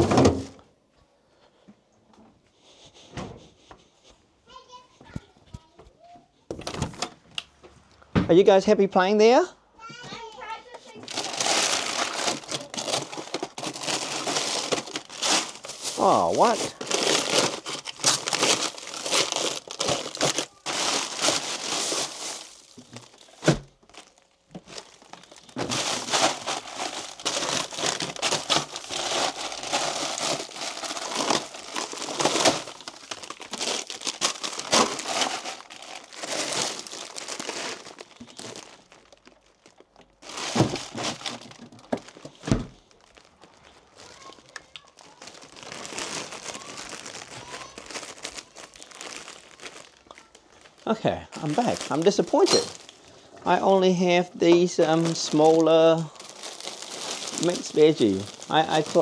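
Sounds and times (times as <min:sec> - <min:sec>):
plastic bags crinkling: 0:10.2 - 0:59.0.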